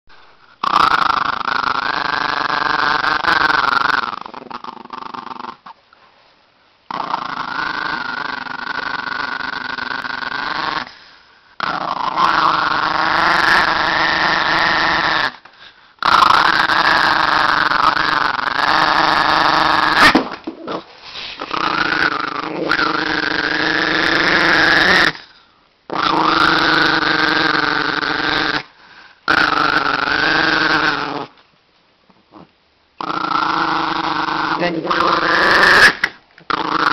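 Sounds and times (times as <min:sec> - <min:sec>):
small dog growling: 0:00.6 - 0:05.8, 0:06.9 - 0:28.7, 0:29.3 - 0:31.4, 0:32.3 - 0:36.9.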